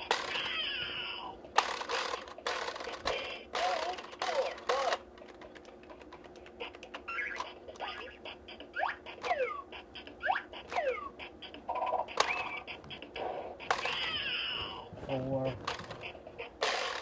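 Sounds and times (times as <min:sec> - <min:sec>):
electronic toy sound effects: 0:00.0 - 0:17.0.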